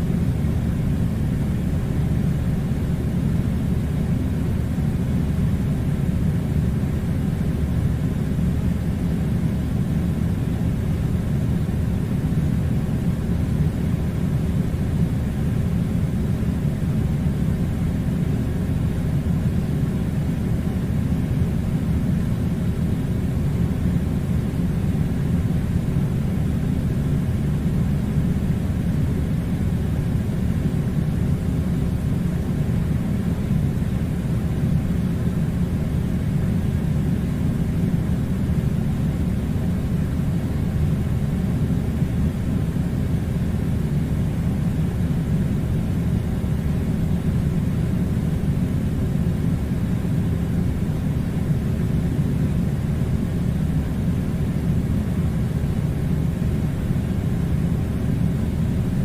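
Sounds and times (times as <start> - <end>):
air conditioner rumble: 0.0 - 59.0.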